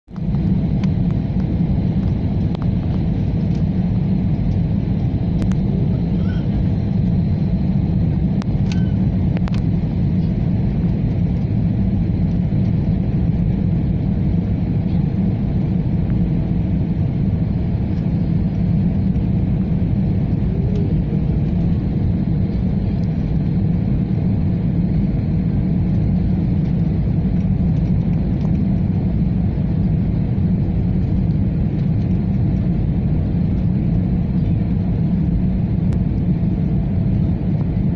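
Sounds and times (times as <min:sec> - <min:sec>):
airliner cabin engine rumble: 0:00.1 - 0:37.9.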